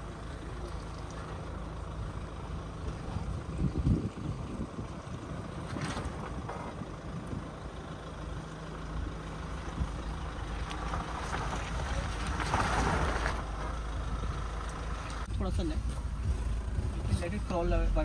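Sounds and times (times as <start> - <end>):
tyres in mud: 0.0 - 17.3
suv engine running low: 0.0 - 18.0.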